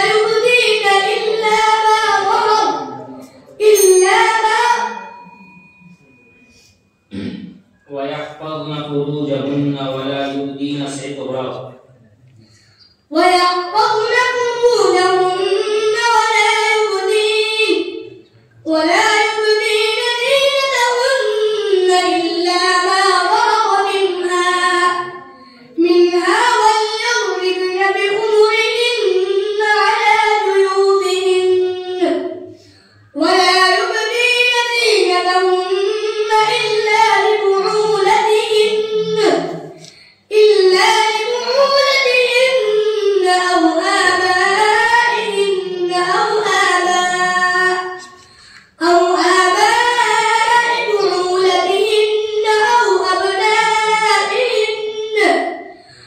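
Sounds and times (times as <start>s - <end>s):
boy chanting melodically: 0.0s - 5.4s, 13.1s - 56.0s.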